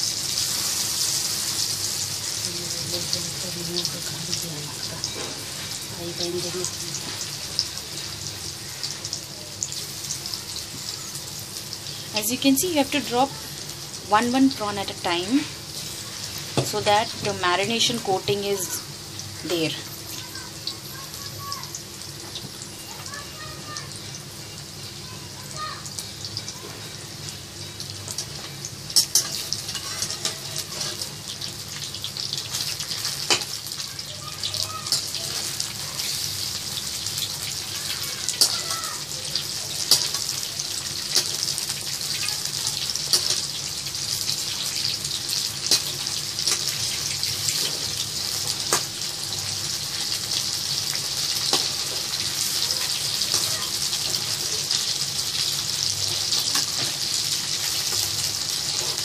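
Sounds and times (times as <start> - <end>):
prawns sizzling in hot oil: 0.0 - 59.0.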